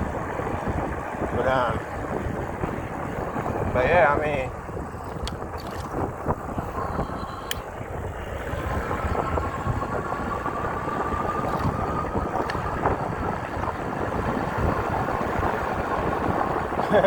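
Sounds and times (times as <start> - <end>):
road rumble: 0.0 - 17.0
wind buffeting microphone: 0.0 - 17.0.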